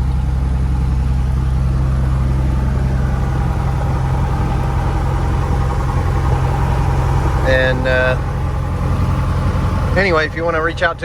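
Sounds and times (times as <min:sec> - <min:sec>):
aircraft engine and propeller: 0:00.0 - 0:11.0.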